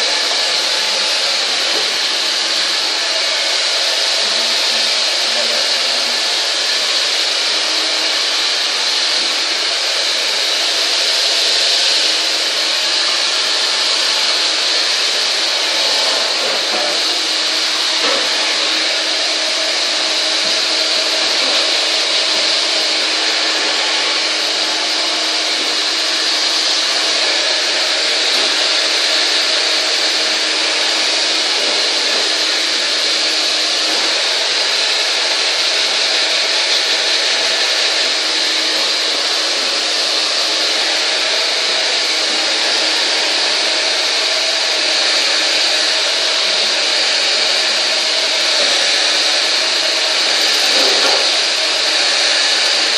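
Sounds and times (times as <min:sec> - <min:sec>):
hair dryer running: 0:00.0 - 0:52.9.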